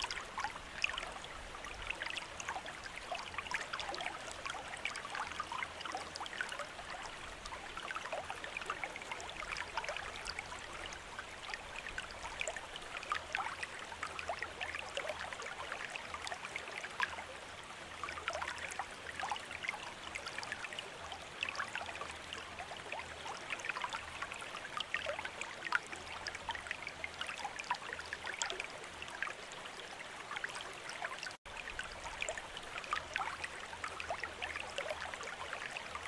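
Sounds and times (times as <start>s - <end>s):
water fountain trickling and splashing: 0.0s - 36.0s.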